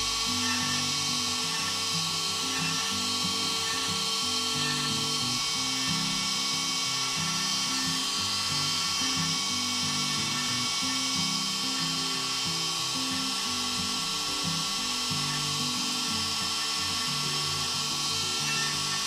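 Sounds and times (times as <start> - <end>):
router spindle high whine: 0.0 - 19.0
stepper motors low tones: 0.0 - 19.0.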